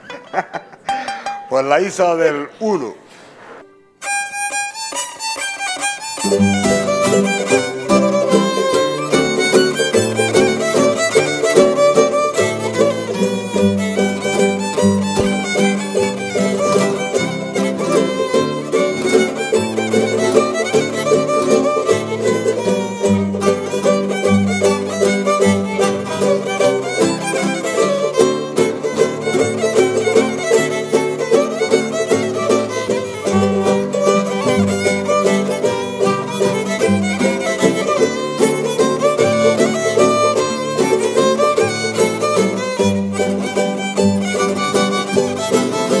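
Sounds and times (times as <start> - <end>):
fiddle melody: 0.0 - 1.6, 3.5 - 46.0
strummed guitars: 0.0 - 2.1, 3.6 - 46.0.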